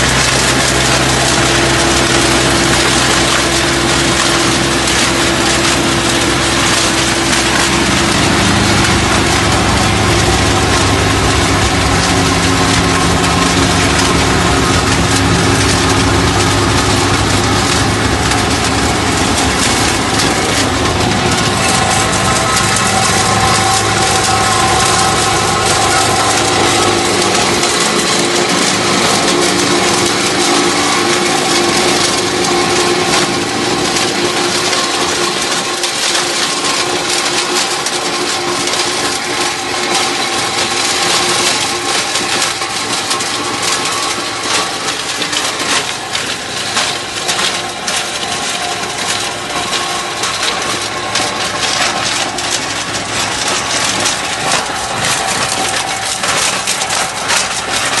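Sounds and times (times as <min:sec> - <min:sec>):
stone crusher rattling rocks: 0:00.0 - 0:58.0
tractor diesel engine under load: 0:00.0 - 0:58.0.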